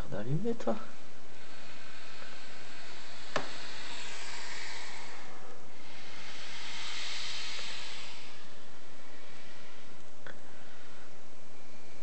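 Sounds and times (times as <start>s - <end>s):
snake hissing: 0.6s - 12.0s.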